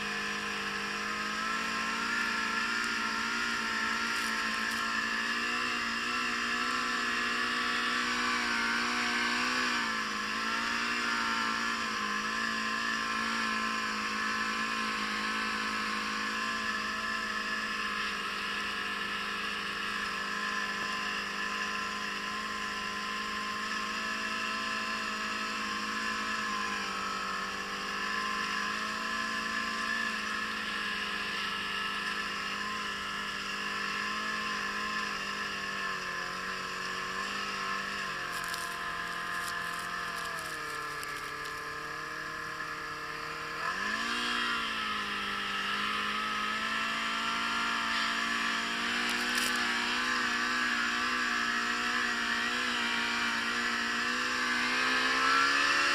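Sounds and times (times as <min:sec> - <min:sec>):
snowmobile engine running: 0:00.0 - 0:55.9.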